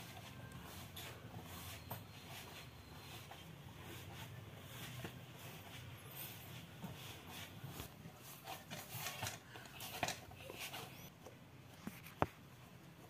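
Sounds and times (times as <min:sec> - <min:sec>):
dough rubbing and pressing: 0:00.0 - 0:13.0.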